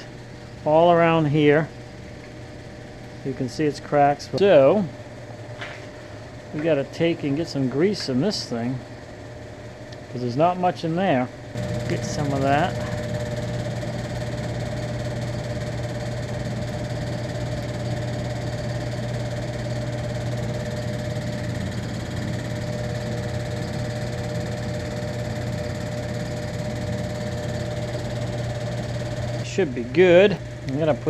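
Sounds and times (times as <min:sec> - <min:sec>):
machine humming with whine: 0:00.0 - 0:31.0.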